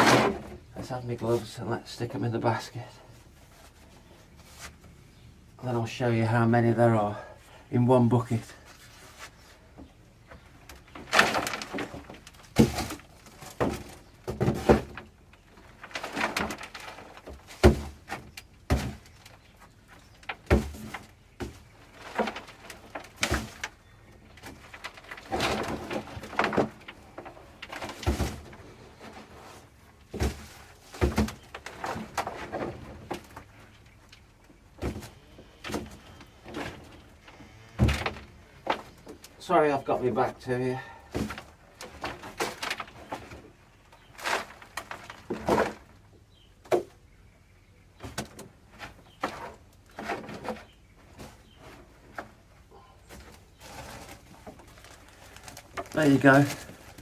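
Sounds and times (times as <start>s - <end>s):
soil rustling: 0.0s - 46.6s, 48.0s - 57.0s.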